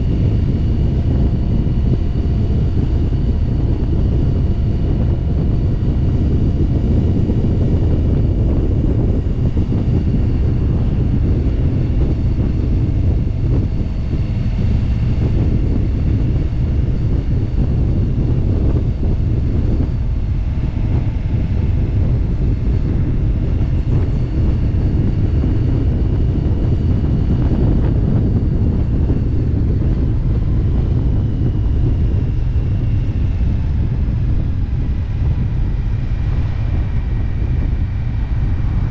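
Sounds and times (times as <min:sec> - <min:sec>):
motorcycle engine drone: 0:00.0 - 0:38.9
wind rushing over microphone: 0:00.0 - 0:38.9.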